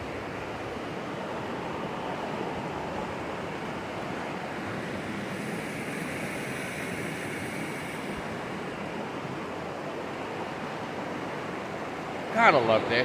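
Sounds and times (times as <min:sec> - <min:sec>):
river rushing: 0:00.0 - 0:13.0
wind: 0:00.0 - 0:13.0.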